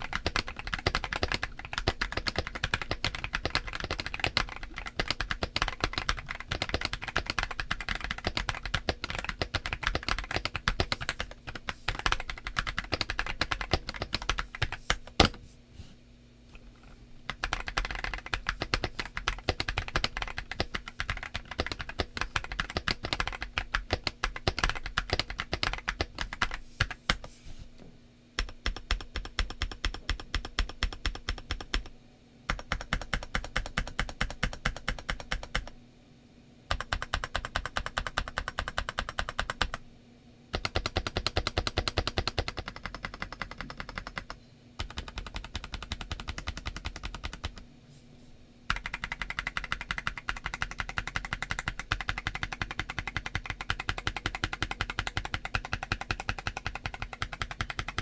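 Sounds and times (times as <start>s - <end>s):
mechanical keyboard typing: 0.0s - 15.4s, 17.3s - 27.2s, 28.4s - 31.9s, 32.5s - 35.7s, 36.7s - 39.8s, 40.5s - 47.6s, 48.7s - 58.0s.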